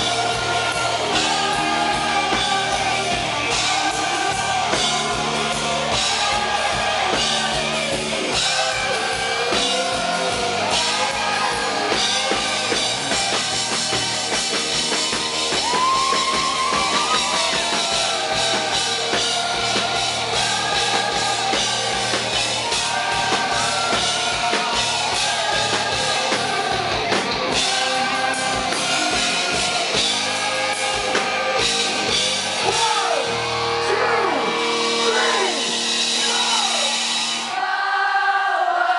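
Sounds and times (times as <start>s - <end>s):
live rock band: 0.0s - 38.9s.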